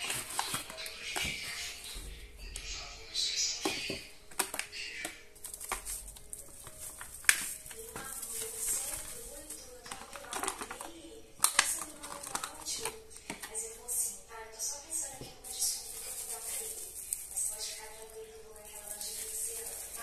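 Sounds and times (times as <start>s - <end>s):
plastic packaging rustling: 0.0s - 2.7s, 3.4s - 20.0s.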